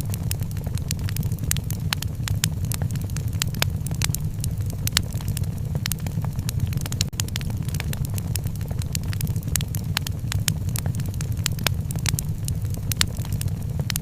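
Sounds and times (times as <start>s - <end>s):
low rumble: 0.0s - 14.0s
wood fire crackling: 0.0s - 14.0s.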